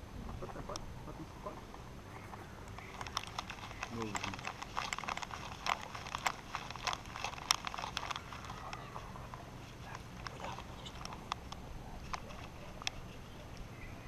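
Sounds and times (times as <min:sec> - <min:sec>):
camera harness clicks and rustles: 0:02.2 - 0:13.7.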